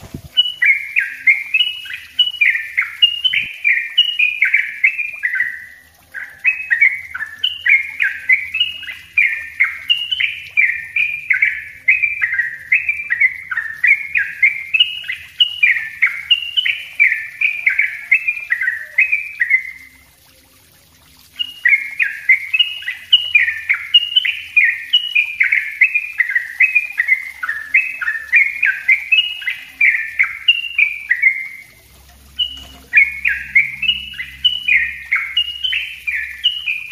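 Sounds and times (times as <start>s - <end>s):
bulbul chattering song: 0.0s - 36.9s.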